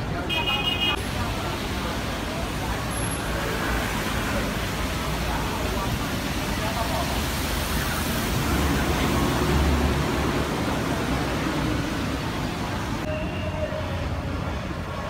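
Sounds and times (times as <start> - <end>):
rumble of traffic engines: 0.0 - 15.0
tyres hissing on wet road: 0.2 - 13.1.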